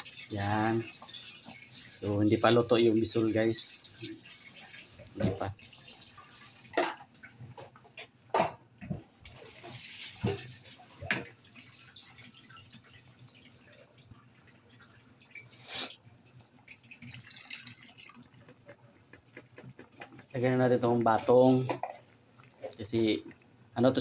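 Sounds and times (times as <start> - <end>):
broth bubbling in a pan: 0.0 - 24.0.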